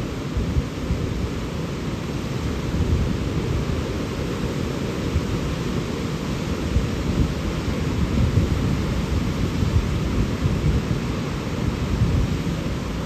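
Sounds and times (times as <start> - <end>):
river water roaring: 0.0 - 13.0.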